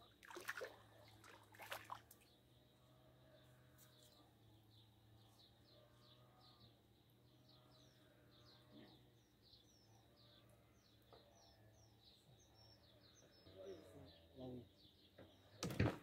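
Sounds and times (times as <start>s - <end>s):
faint bird chirping: 0.0s - 15.8s.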